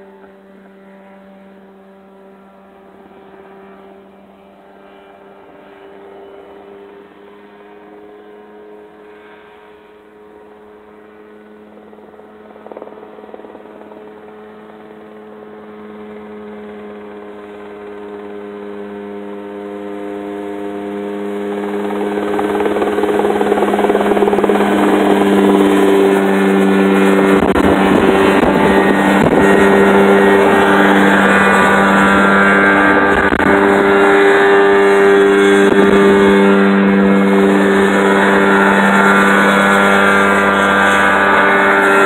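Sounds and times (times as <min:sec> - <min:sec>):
helicopter engine and rotor: 0:00.0 - 0:42.0.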